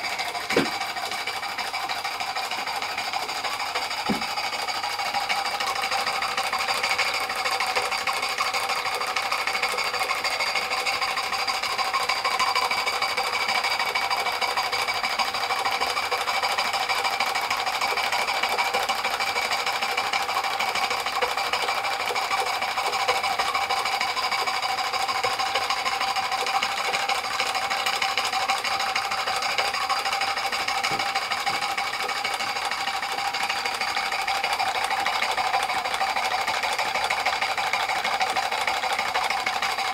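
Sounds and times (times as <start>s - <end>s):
steam engine clattering: 0.0s - 39.9s.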